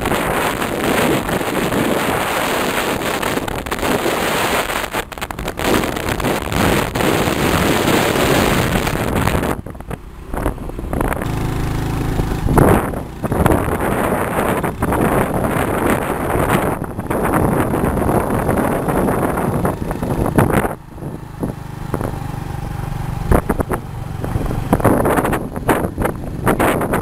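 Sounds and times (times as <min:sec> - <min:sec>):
road and vehicle noise: 0:00.0 - 0:27.0
wind buffeting microphone: 0:00.0 - 0:27.0.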